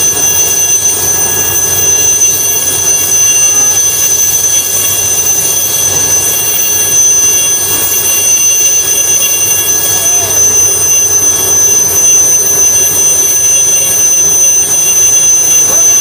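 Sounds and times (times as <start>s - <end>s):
helicopter turbine whining: 0.0s - 16.0s.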